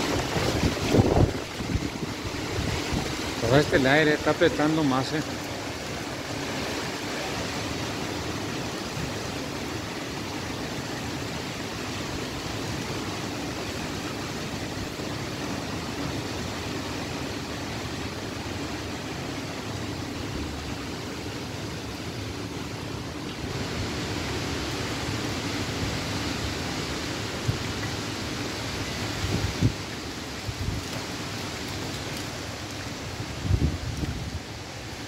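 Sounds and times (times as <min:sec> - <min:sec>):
strong wind through trees: 0:00.0 - 0:35.0.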